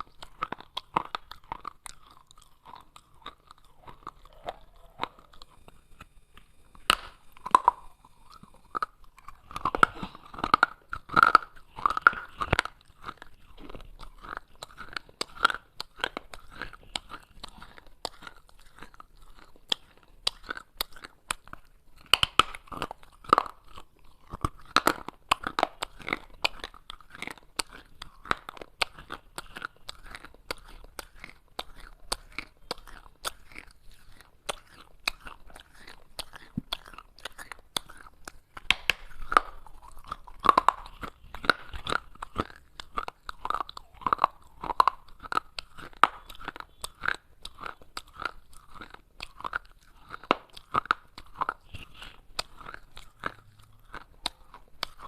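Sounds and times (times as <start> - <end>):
clay pieces crunched and chewed: 0.0 - 55.0.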